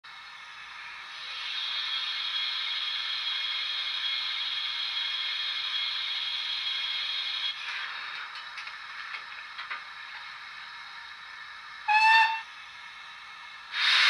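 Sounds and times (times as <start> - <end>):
steam hiss: 0.1 - 14.0.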